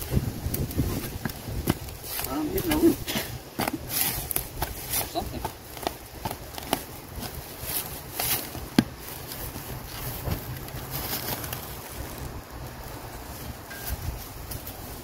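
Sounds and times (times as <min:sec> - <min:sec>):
shovel scraping through leaves and dirt: 0:00.0 - 0:15.0.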